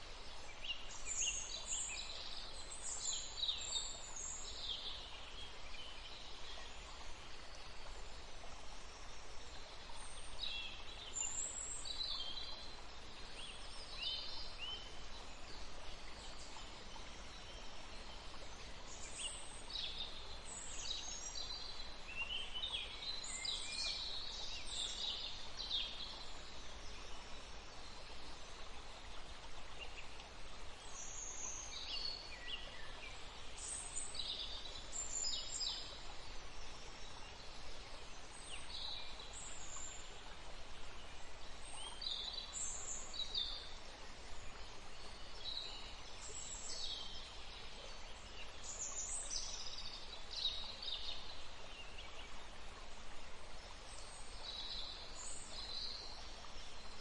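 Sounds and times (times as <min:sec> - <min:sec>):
running water: 0:00.0 - 0:57.0
songbirds chirping: 0:00.0 - 0:57.0.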